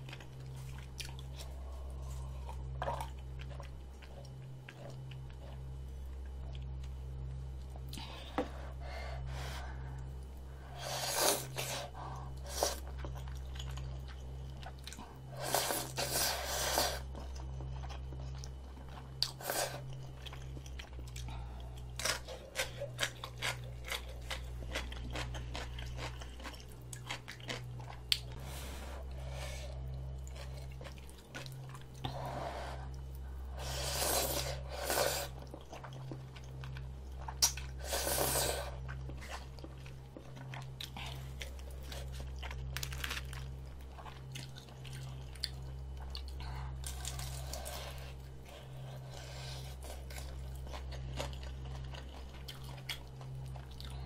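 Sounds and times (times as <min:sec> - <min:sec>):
chewing and crunching food: 0:00.0 - 0:54.0
steady low hum: 0:00.0 - 0:54.0.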